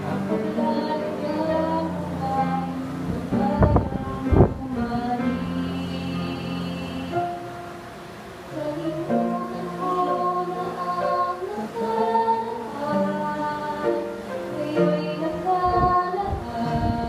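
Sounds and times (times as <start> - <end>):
woman singing a hymn: 0.0 - 7.6, 8.5 - 17.0
instrumental accompaniment: 0.0 - 17.0.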